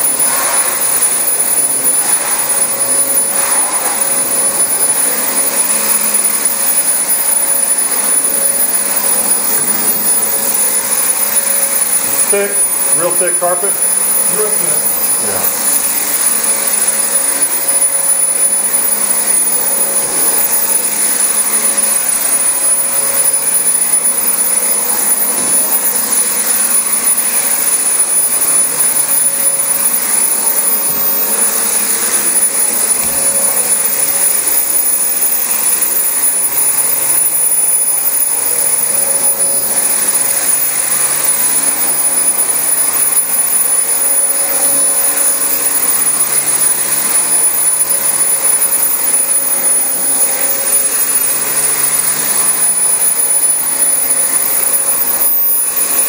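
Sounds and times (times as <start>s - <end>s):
vacuum cleaner running on carpet: 0.0s - 56.0s.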